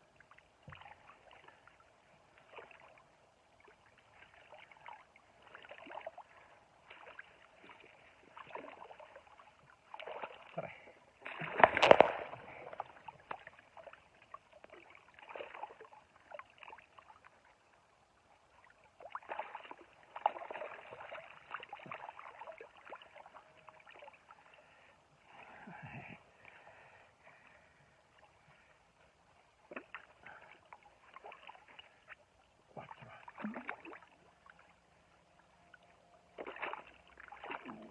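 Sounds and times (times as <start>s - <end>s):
water sloshing and splashing: 0.0s - 25.5s, 26.3s - 37.9s.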